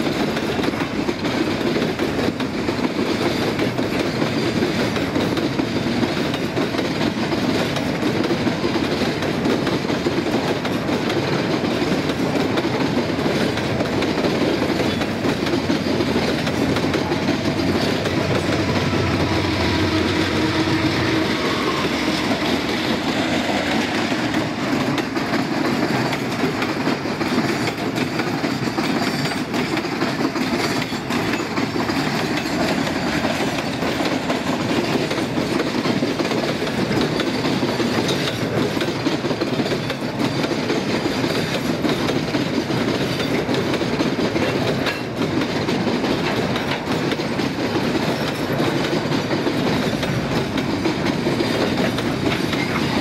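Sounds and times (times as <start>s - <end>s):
train wheels clickety-clack: 0.0s - 53.0s.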